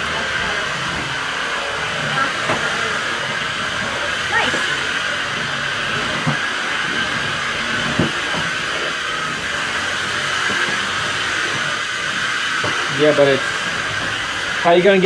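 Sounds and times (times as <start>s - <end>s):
stick vacuum whirring: 0.0s - 15.0s.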